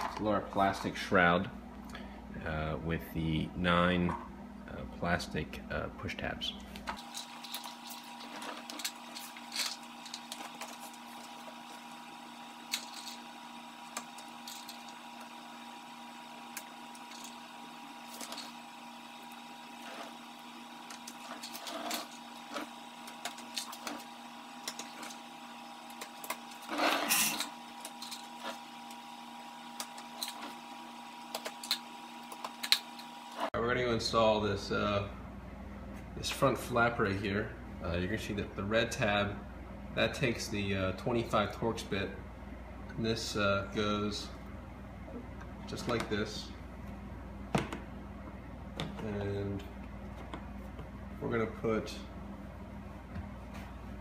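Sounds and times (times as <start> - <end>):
steady motor-like hum: 0.0 - 54.0.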